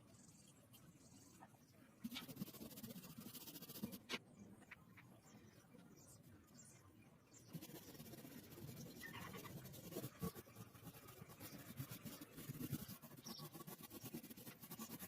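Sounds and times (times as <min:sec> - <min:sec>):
faint scratching with clicks: 0:00.3 - 0:15.0.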